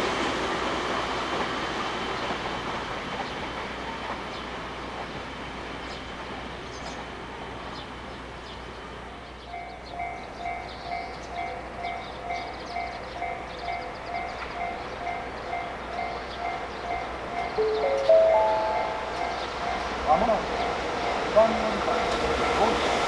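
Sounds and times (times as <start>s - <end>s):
freight train rumbling: 0.0s - 23.0s.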